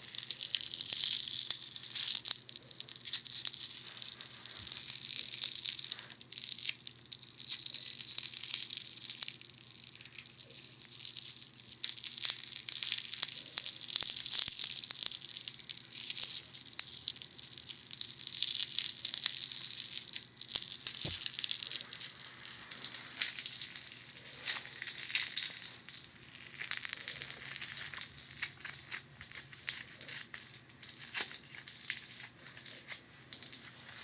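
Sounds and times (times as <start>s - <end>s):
foam clay squished crackling: 0.0s - 34.0s.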